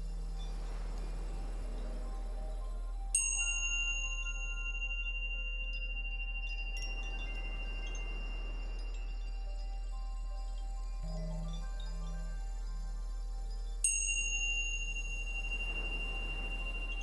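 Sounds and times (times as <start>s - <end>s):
faint tinkles: 0.0s - 17.0s
steady low tone: 0.0s - 17.0s
chime ringing: 3.1s - 17.0s.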